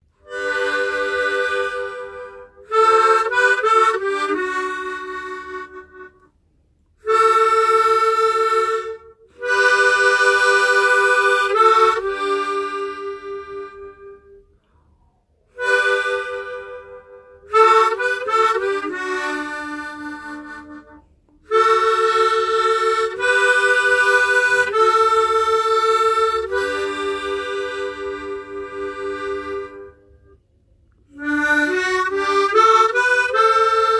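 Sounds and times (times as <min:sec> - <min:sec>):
tremolo harmonica melody: 0:00.0 - 0:06.3, 0:07.0 - 0:14.6, 0:15.6 - 0:30.5, 0:31.1 - 0:33.9.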